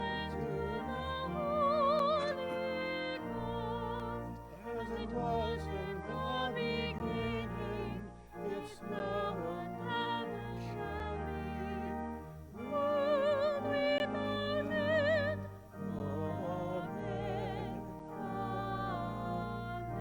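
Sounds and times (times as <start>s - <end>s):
classical singing with vibrato: 0.0s - 20.0s
instrumental accompaniment: 0.0s - 20.0s.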